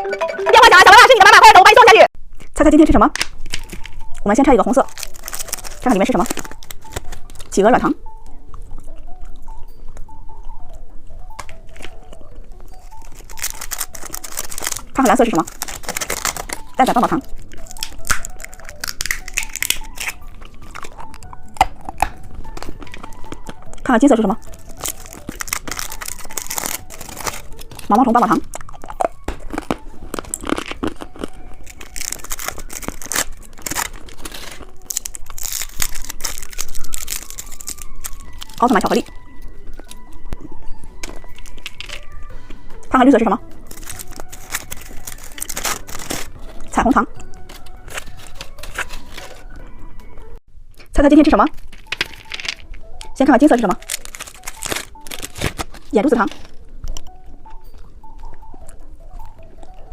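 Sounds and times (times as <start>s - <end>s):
soft background music: 0.0s - 59.9s
candy packaging crinkling: 2.4s - 7.6s, 11.2s - 50.1s, 51.5s - 59.9s.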